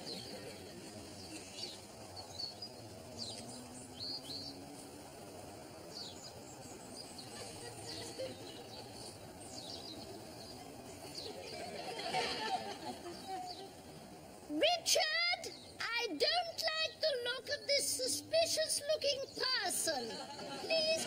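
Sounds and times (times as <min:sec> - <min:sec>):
birds chirping: 0:00.0 - 0:21.0
open-air ambience hum: 0:00.0 - 0:21.0.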